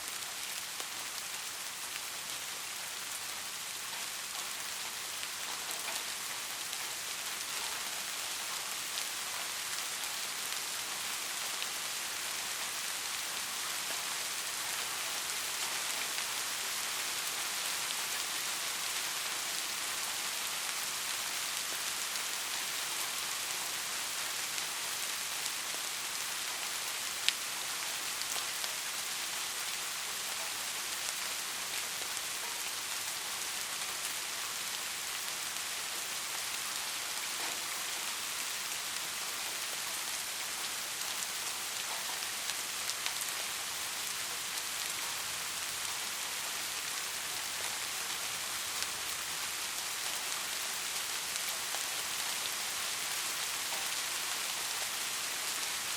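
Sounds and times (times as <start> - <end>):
soft rain falling: 0.0 - 55.9.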